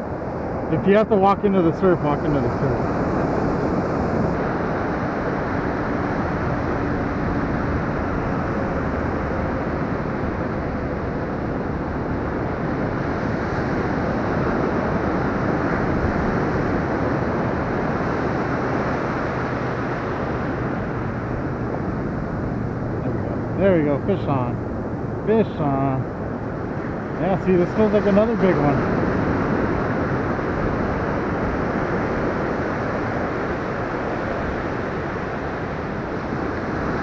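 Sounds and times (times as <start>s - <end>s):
surf washing in: 0.0s - 37.0s
wind buffeting microphone: 0.0s - 37.0s.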